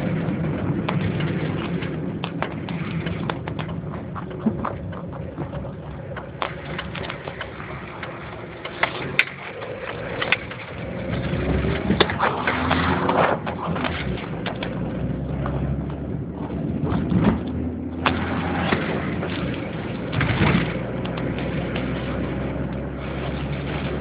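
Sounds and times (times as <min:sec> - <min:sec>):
engine and road drone: 0:00.0 - 0:24.0.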